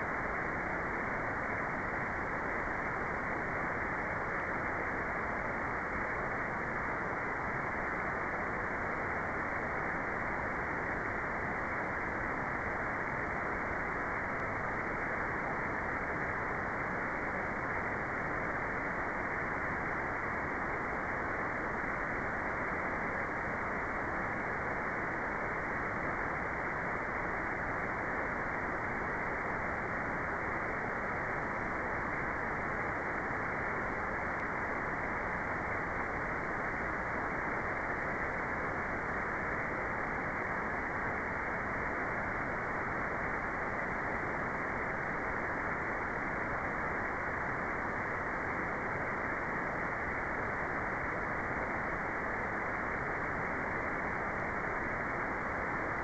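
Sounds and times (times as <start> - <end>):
muffled white noise hiss: 0.0 - 56.0.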